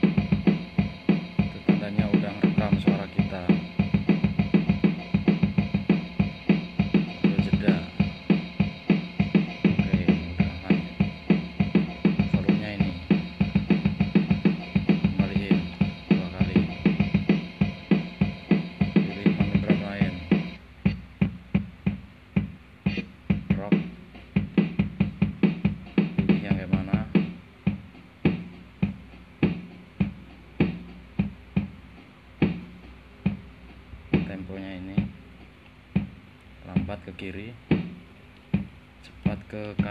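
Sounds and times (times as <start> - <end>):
drum machine beat: 0.0 - 39.9.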